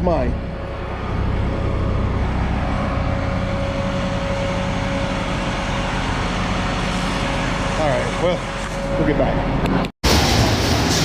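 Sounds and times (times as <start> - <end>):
thin steady whine: 0.0 - 11.0
vehicle engine running: 0.0 - 11.0.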